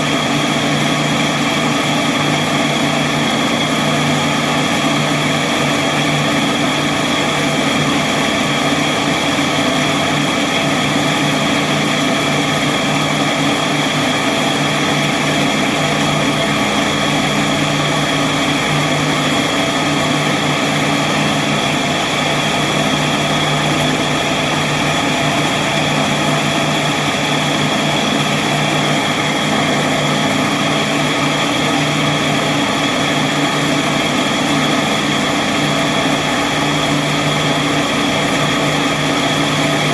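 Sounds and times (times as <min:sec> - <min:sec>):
high whine: 0:00.0 - 0:39.9
machine motor and gear hum: 0:00.0 - 0:39.9.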